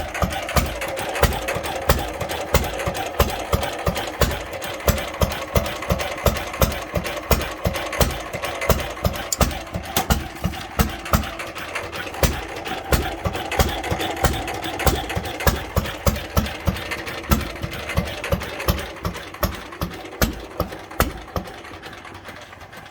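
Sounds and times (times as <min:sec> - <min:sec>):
stationary engine idling: 0:00.0 - 0:22.9.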